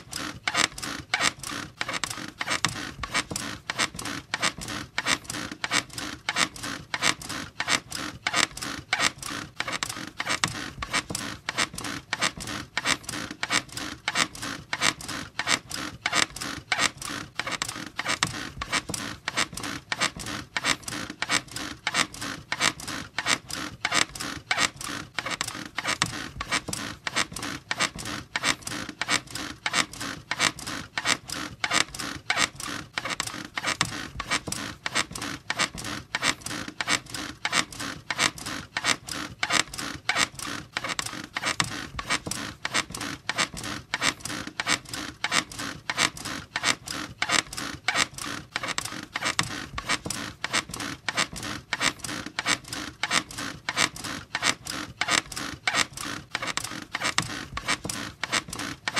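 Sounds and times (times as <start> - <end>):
squeaky bed creaking: 0.0 - 58.9.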